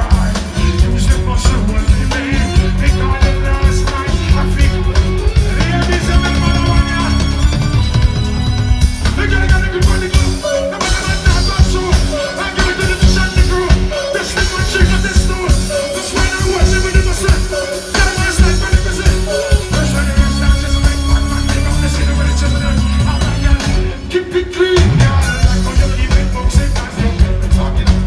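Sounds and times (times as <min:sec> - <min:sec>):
live reggae music with deep bass: 0:00.0 - 0:28.0.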